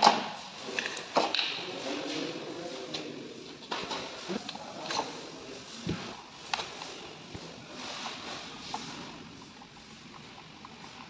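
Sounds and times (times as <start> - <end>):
steady hiss: 0.2 - 11.0.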